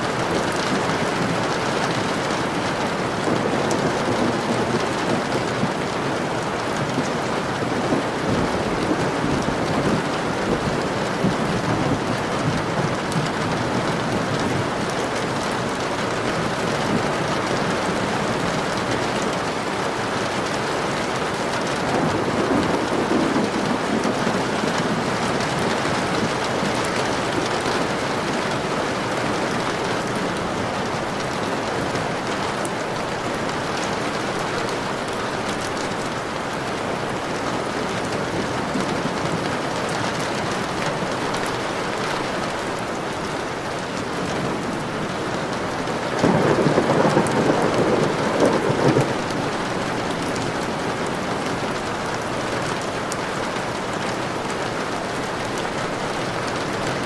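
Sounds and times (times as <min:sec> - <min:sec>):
thunder rumbling: 0:00.0 - 0:36.4, 0:37.0 - 0:52.3
steady rain falling: 0:00.0 - 0:57.0.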